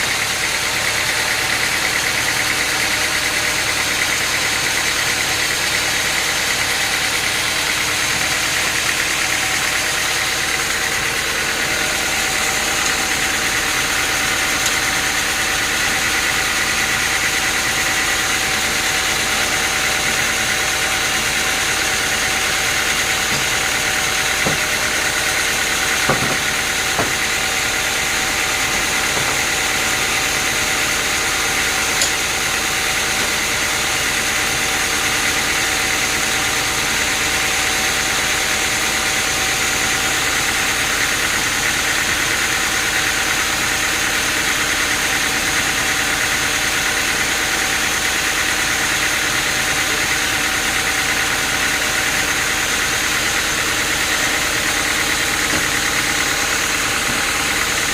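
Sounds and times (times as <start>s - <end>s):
sawmill machinery humming: 0.0s - 57.9s.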